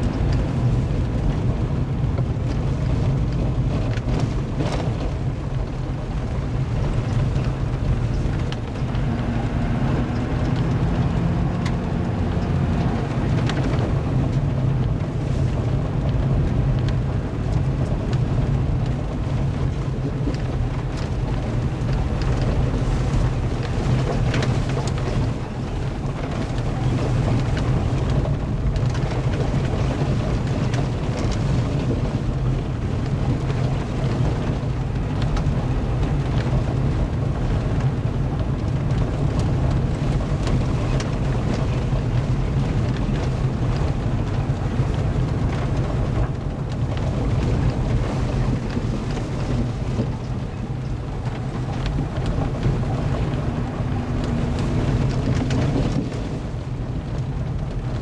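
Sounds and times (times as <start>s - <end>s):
engine and tyre drone: 0.0s - 58.0s
gravel crackling under tyres: 0.0s - 58.0s.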